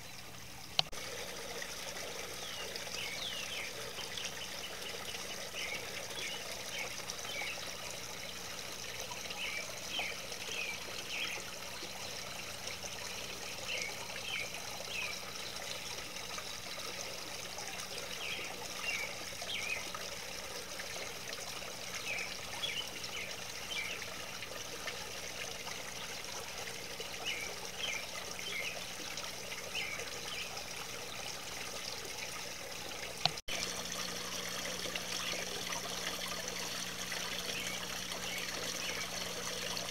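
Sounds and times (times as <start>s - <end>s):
fountain water trickling: 0.0s - 39.9s.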